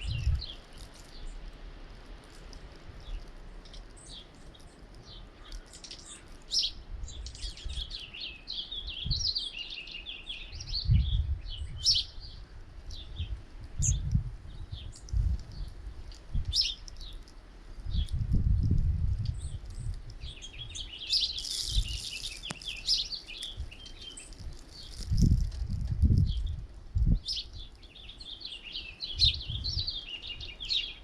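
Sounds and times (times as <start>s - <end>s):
small birds chirping and twittering: 0.0s - 31.0s.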